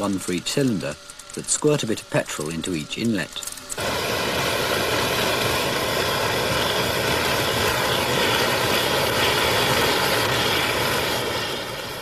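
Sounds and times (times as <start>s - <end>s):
rushing fuel flames: 0.0s - 12.0s.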